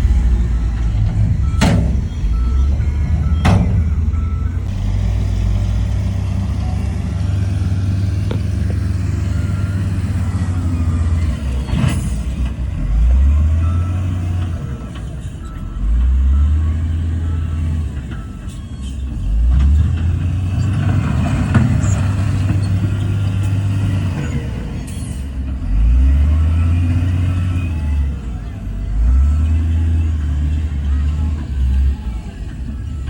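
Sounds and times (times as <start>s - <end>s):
bulldozer diesel engine under load: 0.0s - 33.0s.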